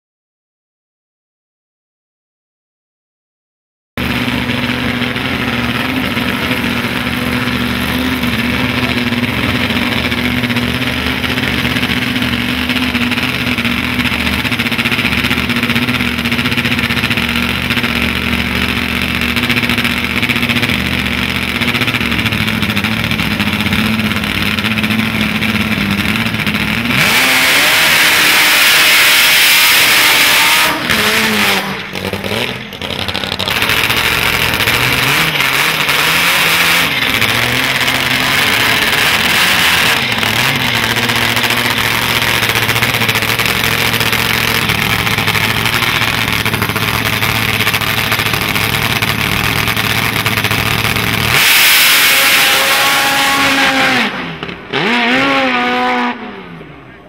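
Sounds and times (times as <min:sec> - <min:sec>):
motorcycle engine idling and revving: 0:04.0 - 0:57.0.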